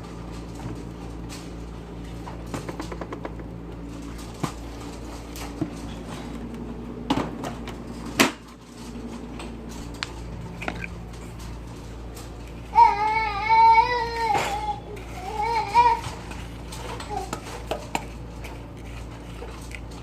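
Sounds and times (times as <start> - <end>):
low hum: 3.0 - 20.0.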